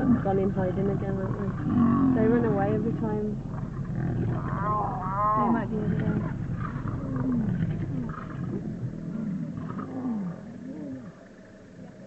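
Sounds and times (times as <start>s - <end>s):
lion calling: 0.0s - 11.2s.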